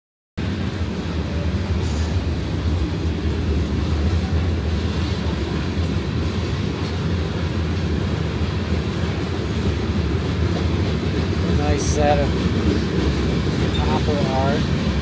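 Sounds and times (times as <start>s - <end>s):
train wheels rolling on rails: 0.4s - 15.0s.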